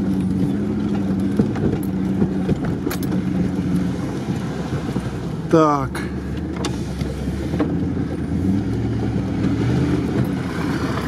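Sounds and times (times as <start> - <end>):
car engine running inside cabin: 0.0 - 11.0.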